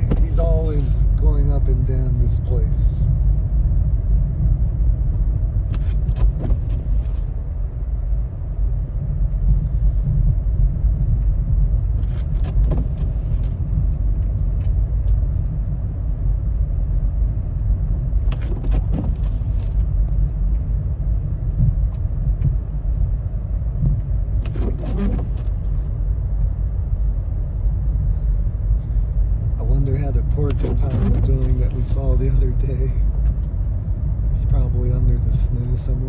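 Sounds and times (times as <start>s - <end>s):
car engine and tyres rumbling: 0.0s - 36.0s.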